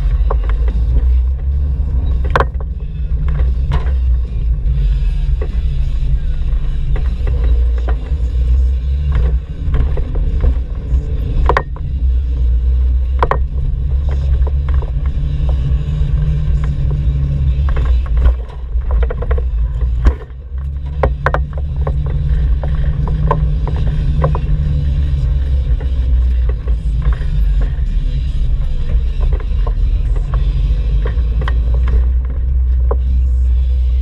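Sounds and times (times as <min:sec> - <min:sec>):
van engine rumbling: 0:00.0 - 0:34.0.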